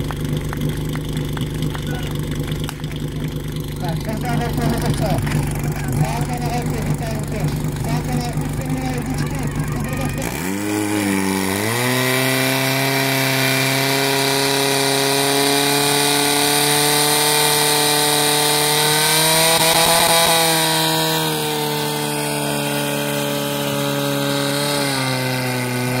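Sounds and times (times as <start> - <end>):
fire pump engine running: 0.0 - 26.0.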